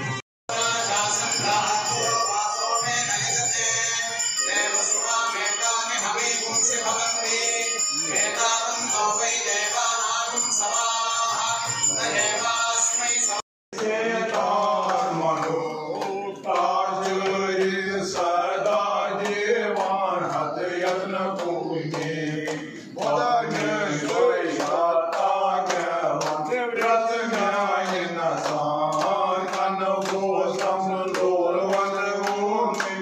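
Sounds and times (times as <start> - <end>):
men chanting mantras: 0.5 - 33.0.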